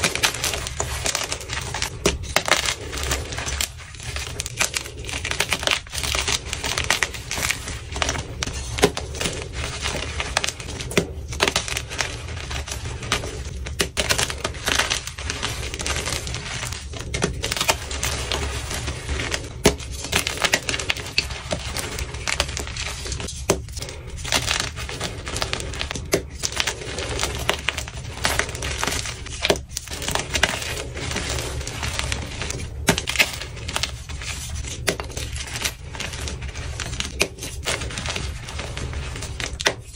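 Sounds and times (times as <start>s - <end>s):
chalk blocks crunching: 0.0s - 39.9s.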